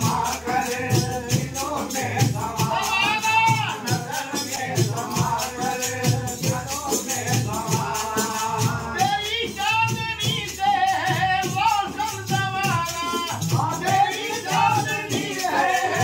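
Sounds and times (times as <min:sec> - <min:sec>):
frame drums with jingles: 0:00.0 - 0:16.0
men singing: 0:00.0 - 0:16.0.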